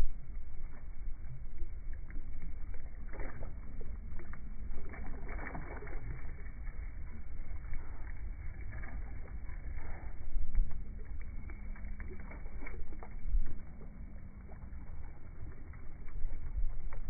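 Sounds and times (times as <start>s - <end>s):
wind rumbling on microphone: 0.0s - 17.0s
small waves lapping: 1.8s - 16.7s.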